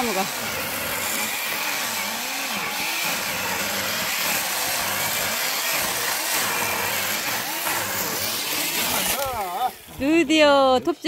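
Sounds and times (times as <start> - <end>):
chainsaw cutting logs: 0.0 - 11.0.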